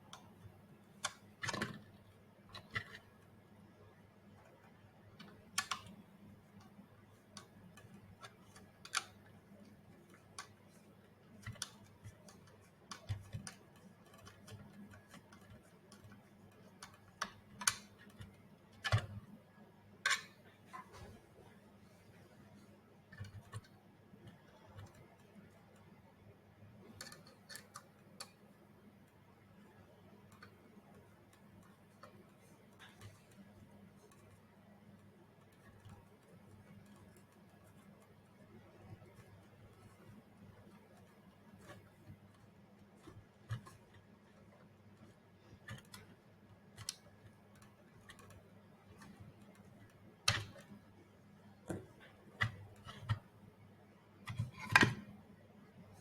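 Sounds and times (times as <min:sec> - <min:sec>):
light clicks and taps of parts: 0:00.0 - 0:53.4, 0:54.2 - 0:56.0.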